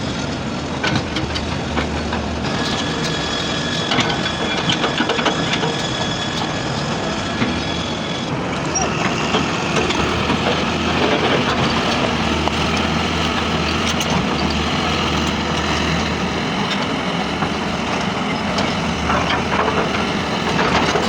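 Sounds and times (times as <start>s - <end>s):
heavy diesel engines running: 0.0s - 21.0s.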